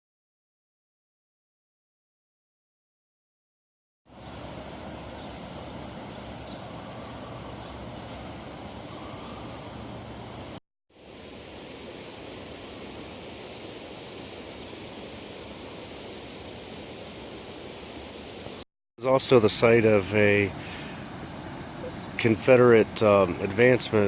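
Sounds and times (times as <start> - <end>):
insect high trill: 4.1 - 24.0
insect paired chirps: 4.1 - 24.0.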